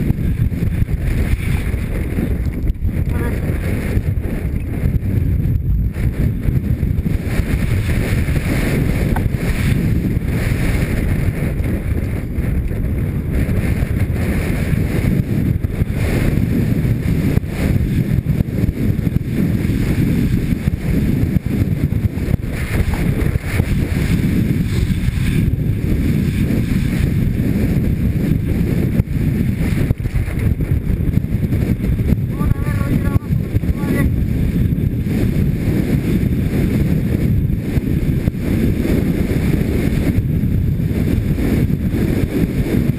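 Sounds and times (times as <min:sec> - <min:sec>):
bike tyres rumbling on dirt trail: 0:00.0 - 0:42.9
wind rushing over microphone: 0:00.0 - 0:42.9.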